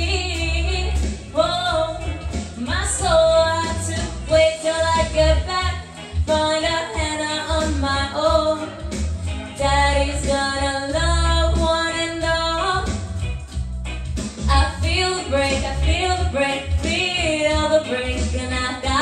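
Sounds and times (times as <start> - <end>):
woman singing into a microphone: 0.0 - 9.0, 9.6 - 13.2, 14.5 - 19.0
instrumental accompaniment: 0.0 - 19.0
low sustained bass notes: 0.0 - 19.0.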